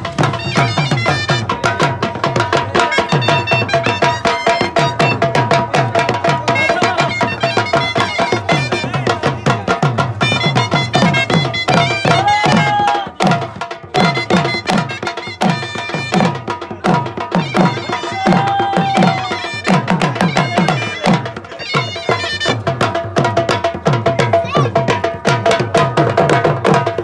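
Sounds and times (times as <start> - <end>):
held melody line: 0.0 - 23.8.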